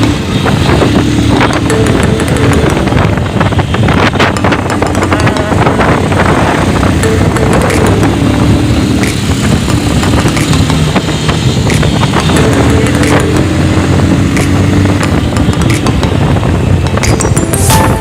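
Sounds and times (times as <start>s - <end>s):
motorcycle engine running: 0.0s - 18.0s
rushing rumble: 0.0s - 18.0s.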